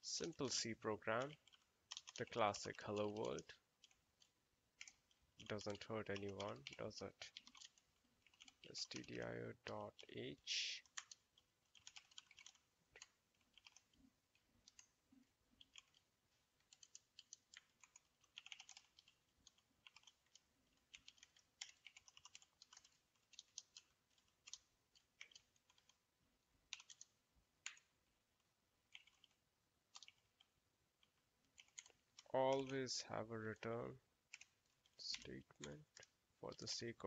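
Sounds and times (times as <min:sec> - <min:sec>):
keyboard typing: 0:00.2 - 0:26.0, 0:26.6 - 0:32.9, 0:33.6 - 0:36.9.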